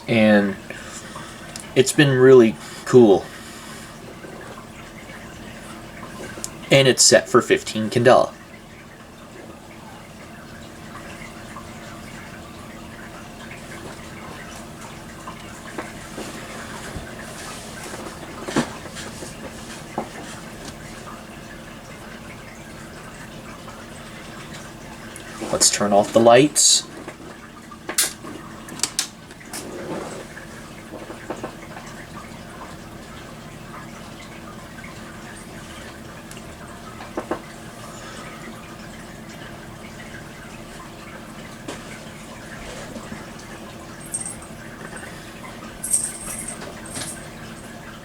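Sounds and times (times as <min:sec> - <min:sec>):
room hiss and faint hum: 0:00.0 - 0:48.0.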